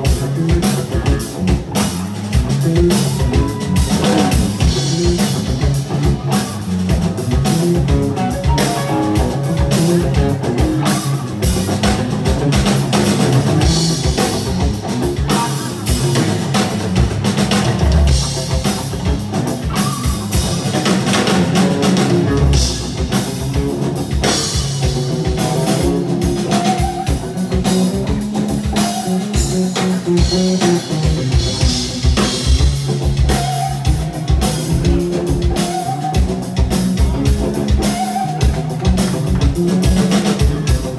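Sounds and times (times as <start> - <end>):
drum kit beat: 0.0 - 40.9
electric guitar solo: 2.4 - 13.0, 18.6 - 40.9.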